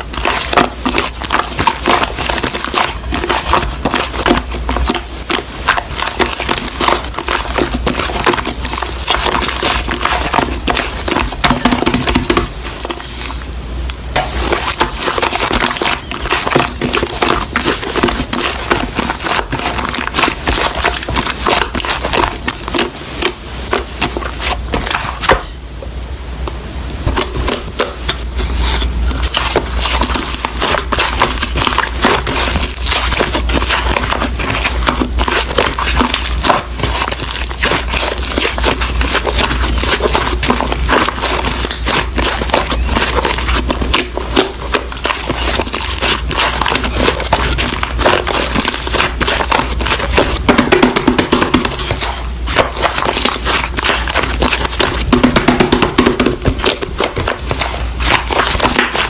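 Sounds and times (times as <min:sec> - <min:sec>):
slime squished with crackles: 0:00.0 - 0:25.6, 0:29.0 - 0:59.0.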